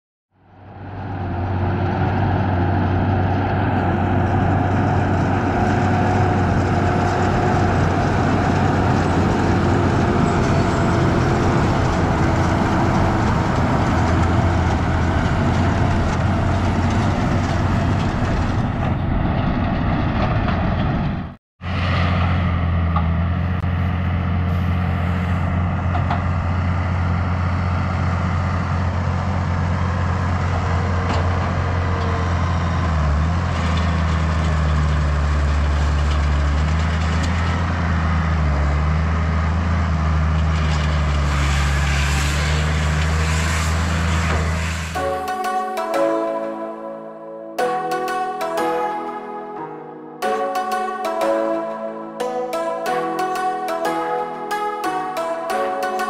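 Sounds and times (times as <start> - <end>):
tractor engine running: 0.6 - 46.4.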